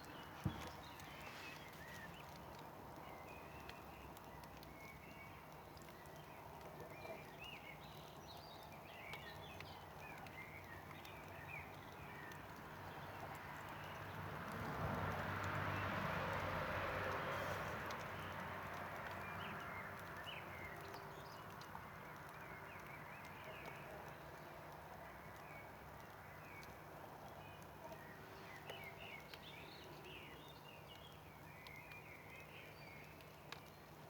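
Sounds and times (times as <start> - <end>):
campfire crackling: 0.0 - 34.0
small birds chirping: 0.0 - 34.0.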